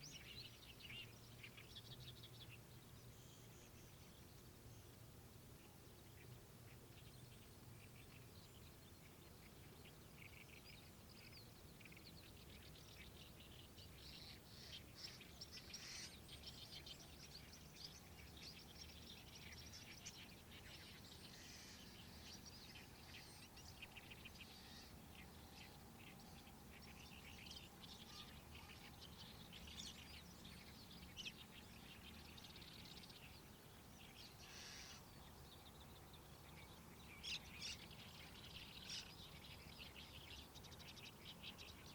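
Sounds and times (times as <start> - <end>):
birds singing rapid chattering: 0.0 - 41.9.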